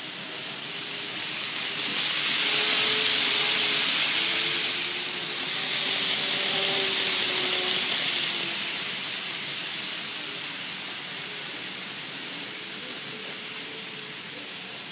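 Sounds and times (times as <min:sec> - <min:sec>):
faint motor whine: 0:00.0 - 0:14.9
model train wheels hissing on rails: 0:00.0 - 0:14.9.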